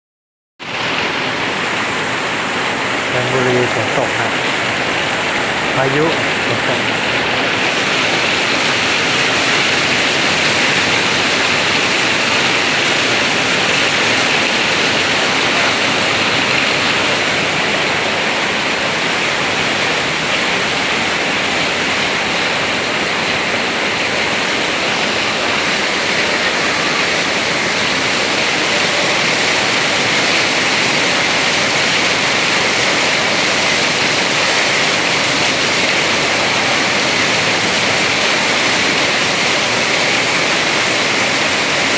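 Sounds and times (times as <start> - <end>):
heavy rain pouring: 0.6 - 41.9.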